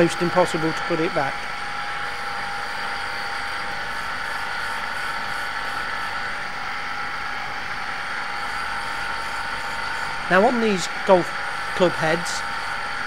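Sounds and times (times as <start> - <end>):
belt polishing machine whirring: 0.0 - 13.0.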